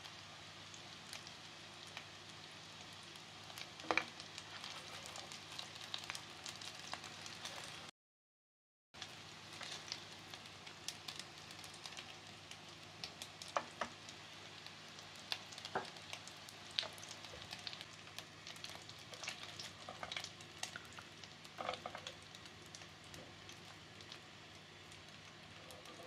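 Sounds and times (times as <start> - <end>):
food sizzling in hot oil: 0.0 - 7.9, 9.0 - 26.0.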